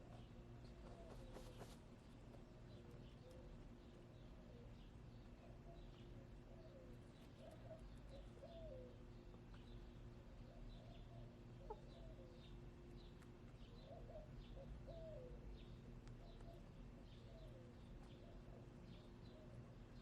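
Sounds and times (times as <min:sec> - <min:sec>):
faint steady hum: 0:00.0 - 0:20.0
small birds chirping: 0:00.0 - 0:20.0.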